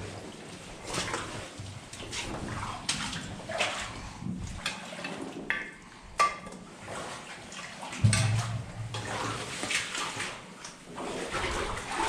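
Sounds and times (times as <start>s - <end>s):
wading splashes in water: 0.0s - 12.0s.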